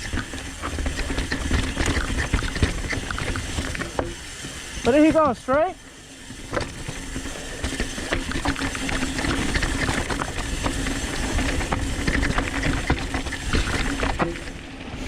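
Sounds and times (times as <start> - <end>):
bike frame and chain rattling: 0.0 - 15.0
bike freewheel hub buzzing: 0.0 - 15.0.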